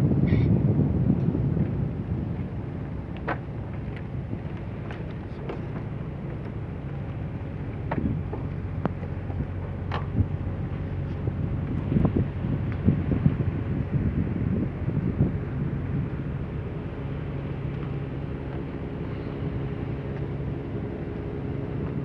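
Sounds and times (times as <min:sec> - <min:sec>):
boat engine humming: 0:00.0 - 0:22.0
wind on microphone: 0:00.0 - 0:22.0.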